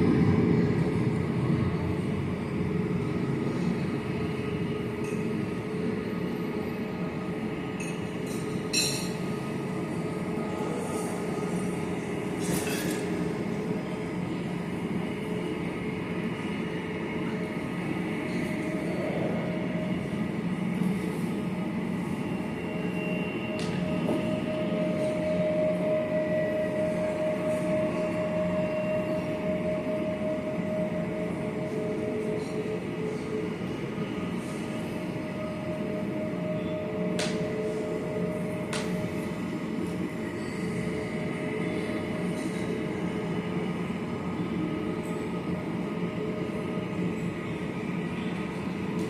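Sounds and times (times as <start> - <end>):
mechanical drone with hum: 0.0 - 49.0.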